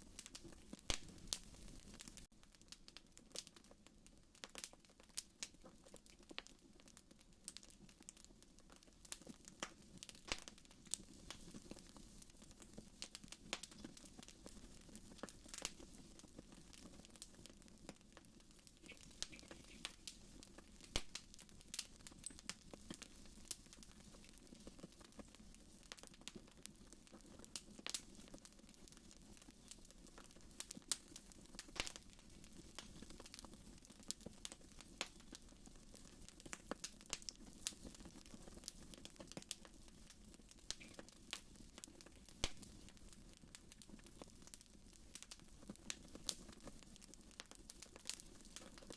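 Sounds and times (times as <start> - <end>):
fire crackling in fireplace: 0.0 - 48.9.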